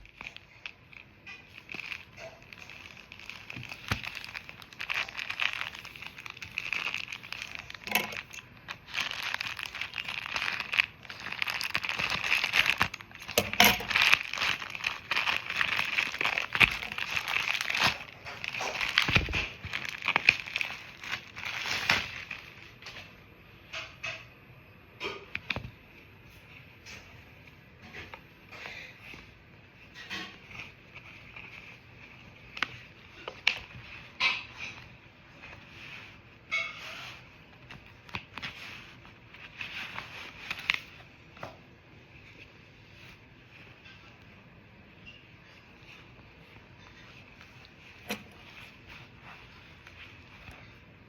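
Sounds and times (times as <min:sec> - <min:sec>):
packaging crinkling and rustling: 0:00.0 - 0:24.2, 0:27.8 - 0:51.0.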